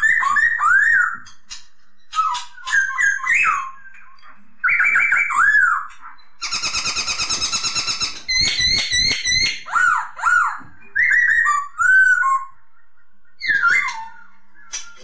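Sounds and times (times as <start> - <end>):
sharp bird calls: 0.0 - 15.0
bird singing whistled notes: 2.0 - 15.0.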